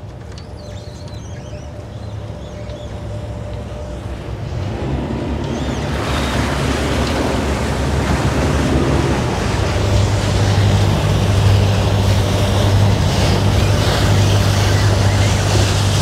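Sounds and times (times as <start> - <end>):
diesel engine hum: 0.0 - 16.0
propeller wash rushing water: 0.0 - 16.0.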